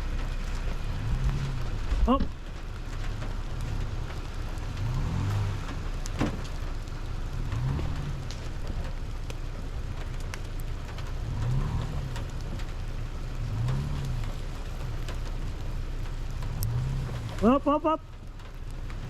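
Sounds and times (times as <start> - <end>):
truck engine revving: 0.0 - 19.0
tyres churning in snow: 0.0 - 19.0.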